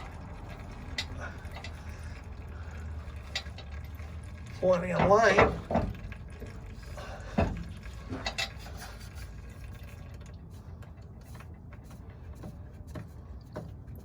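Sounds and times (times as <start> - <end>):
fuel trickling into plastic container: 0.0 - 14.0.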